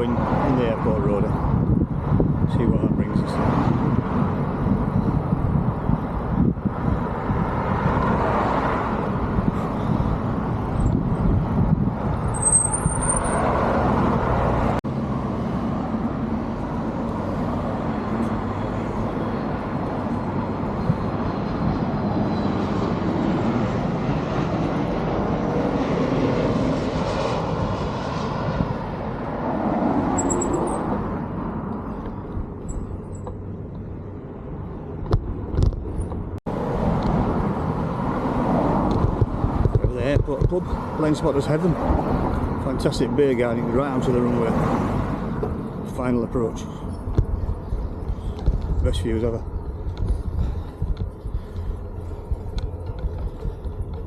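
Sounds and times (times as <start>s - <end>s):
wind rush: 0.0s - 14.8s, 15.6s - 32.6s, 34.5s - 42.6s, 47.0s - 54.0s
road traffic: 0.0s - 54.0s.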